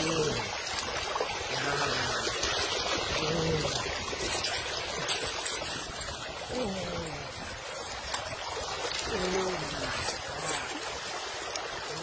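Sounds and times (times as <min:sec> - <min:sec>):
metal chain moving through water: 0:00.0 - 0:12.0
water sloshing and splashing: 0:00.0 - 0:12.0.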